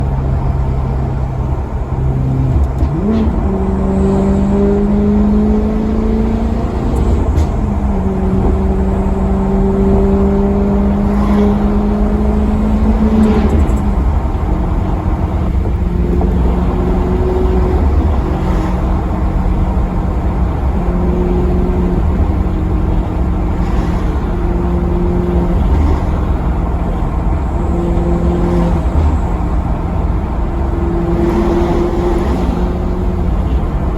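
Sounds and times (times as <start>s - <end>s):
car engine accelerating: 0.0s - 33.9s
steady low rumble: 0.0s - 33.9s.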